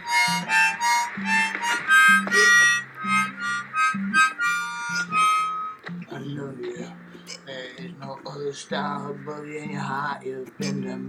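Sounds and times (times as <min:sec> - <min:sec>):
harmonica melody: 0:00.0 - 0:11.0.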